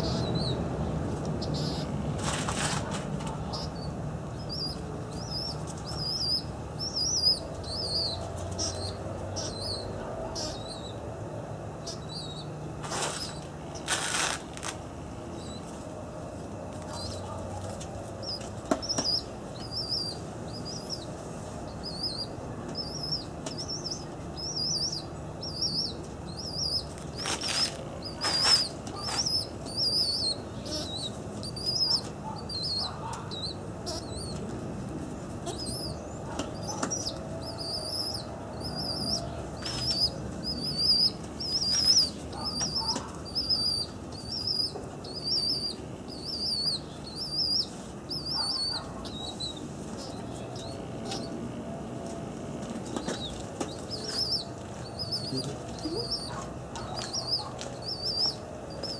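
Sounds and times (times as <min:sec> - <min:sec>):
small bird chirping: 0:00.0 - 0:02.0, 0:03.3 - 0:11.0, 0:11.8 - 0:14.0, 0:15.3 - 0:15.8, 0:16.7 - 0:34.6, 0:35.4 - 0:51.4, 0:52.8 - 0:58.9.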